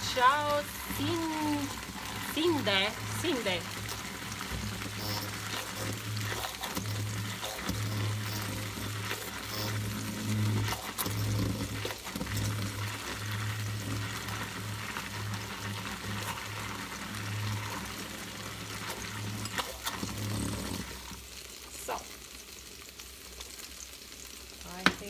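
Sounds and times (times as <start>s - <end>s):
immersion blender motor hum: 0.0s - 21.6s.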